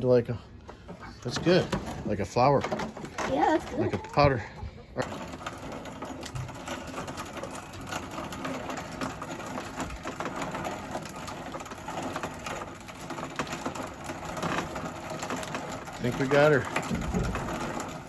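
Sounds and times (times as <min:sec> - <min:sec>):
grain mill grinding corn: 0:00.0 - 0:18.0.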